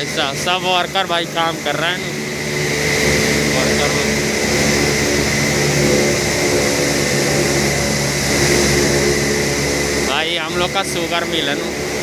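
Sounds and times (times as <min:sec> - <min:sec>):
industrial machinery drone: 0:00.0 - 0:12.0
thin high whine: 0:00.0 - 0:12.0.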